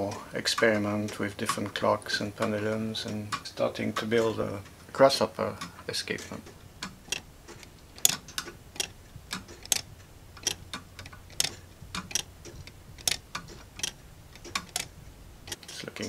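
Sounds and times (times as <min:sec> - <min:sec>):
clock escapement ticking: 0:00.0 - 0:16.0
faint clicks: 0:00.0 - 0:16.0.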